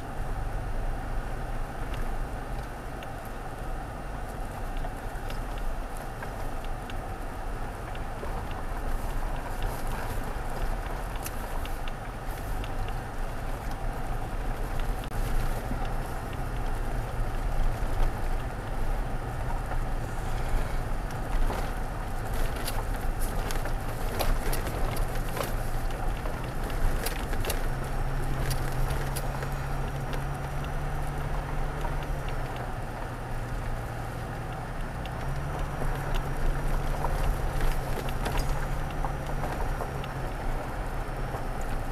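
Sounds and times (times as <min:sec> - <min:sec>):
truck engine hum: 0:00.0 - 0:41.9
gravel crunching under tyres: 0:00.1 - 0:41.9.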